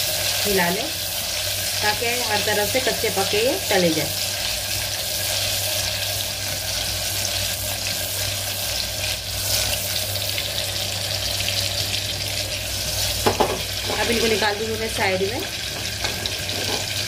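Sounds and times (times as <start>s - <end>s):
meatballs sizzling in hot oil: 0.0s - 17.0s.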